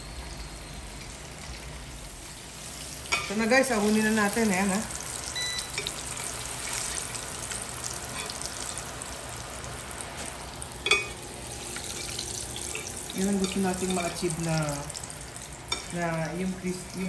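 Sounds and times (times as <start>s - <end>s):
hot oil sizzling in a pan: 0.0s - 17.0s.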